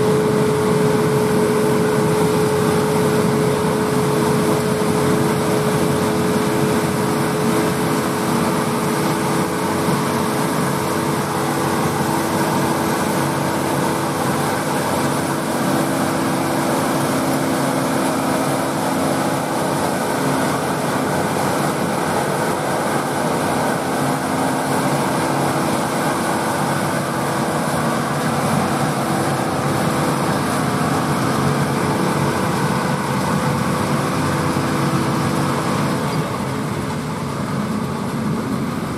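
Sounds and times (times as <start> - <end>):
threshing machinery running: 0.0 - 38.9
tractor diesel engine droning: 0.0 - 38.9.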